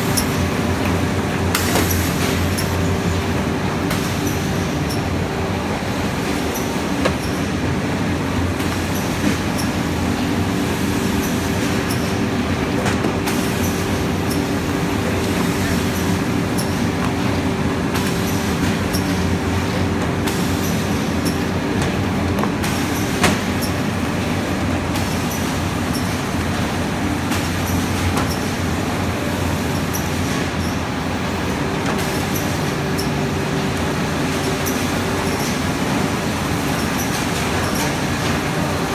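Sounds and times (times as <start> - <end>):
constant machine hum: 0.0 - 38.9.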